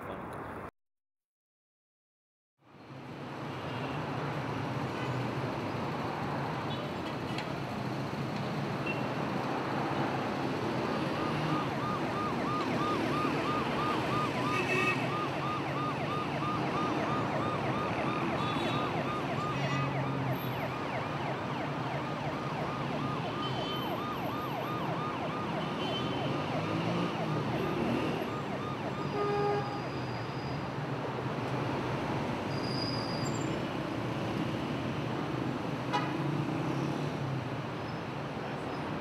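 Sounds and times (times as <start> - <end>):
street traffic: 0.0 - 0.7, 2.6 - 39.0.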